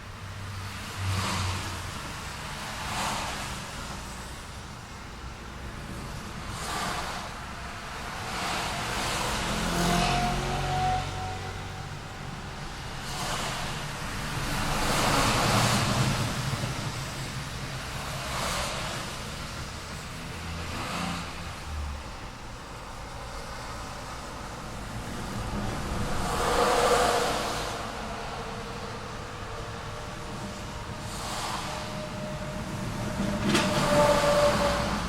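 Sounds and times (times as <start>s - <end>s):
cars passing: 0.0s - 35.0s
road noise: 0.0s - 35.0s.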